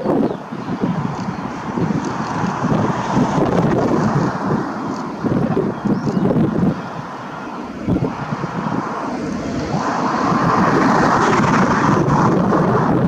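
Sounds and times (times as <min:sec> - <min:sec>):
jet engine roar: 0:00.0 - 0:13.0
wind buffeting microphone: 0:00.0 - 0:13.0.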